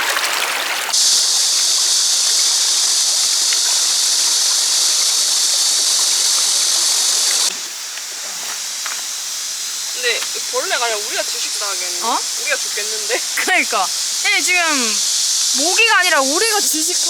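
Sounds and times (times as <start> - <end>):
stream water rushing: 0.0 - 7.9, 9.8 - 17.0
quiet steady hiss: 1.0 - 17.0.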